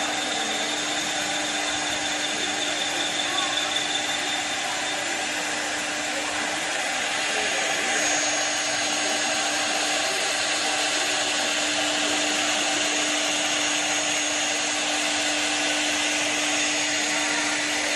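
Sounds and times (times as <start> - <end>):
wood lathe cutting hiss: 0.0 - 17.9.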